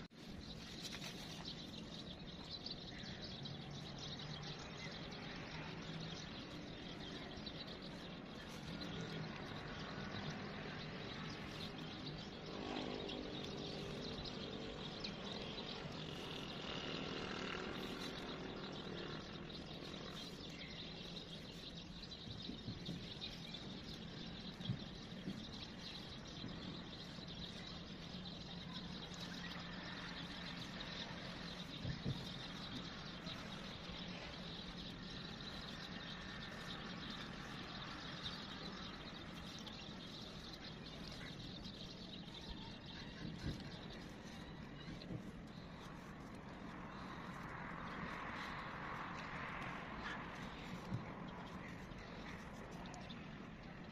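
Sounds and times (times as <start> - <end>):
faint bird chirps: 0.0 - 53.9
outdoor background noise: 0.0 - 53.9.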